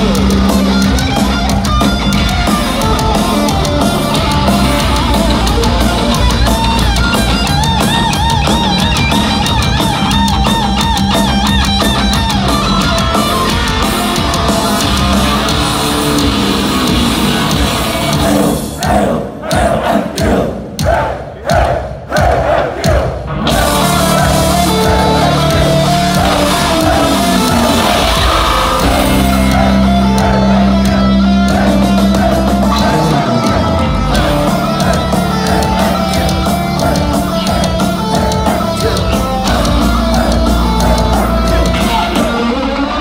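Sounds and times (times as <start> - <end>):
heavy metal band playing live: 0.0 - 43.0.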